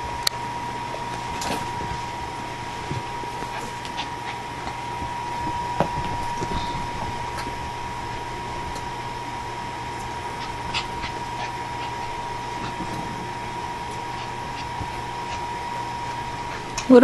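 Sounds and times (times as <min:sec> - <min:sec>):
high-pitched room hum and hiss: 0:00.0 - 0:17.0.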